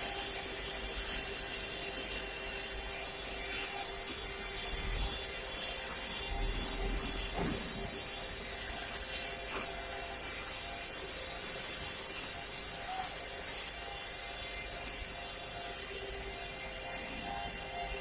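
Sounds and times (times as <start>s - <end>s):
carving machine running: 0.0s - 18.0s.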